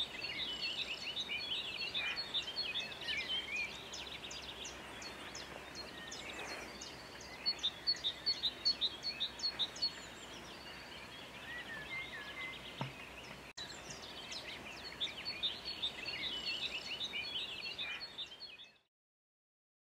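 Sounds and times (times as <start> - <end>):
steady outdoor hiss: 0.0 - 18.6
small birds chirping: 0.0 - 18.9.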